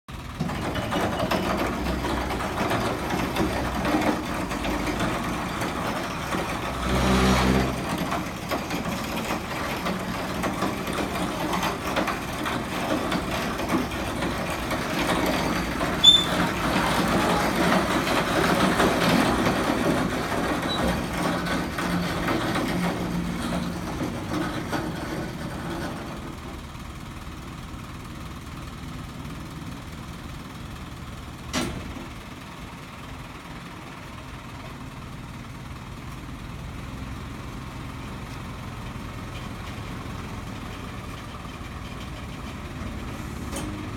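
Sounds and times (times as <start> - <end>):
truck engine running: 0.1 - 43.9.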